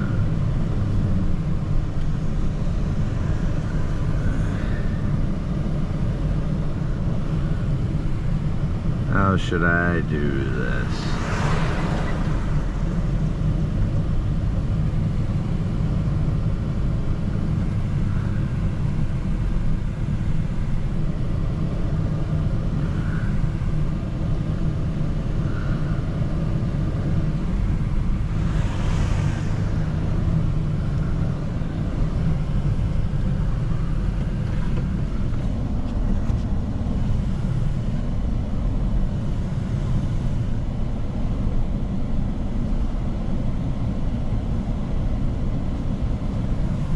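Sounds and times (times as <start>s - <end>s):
rush of noise: 0.0s - 46.9s
vehicle engine and road noise: 0.0s - 46.9s.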